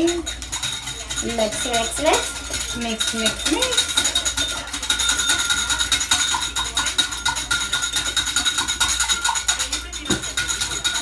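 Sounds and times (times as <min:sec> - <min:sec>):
whisk beating batter in bowl: 0:00.0 - 0:11.0.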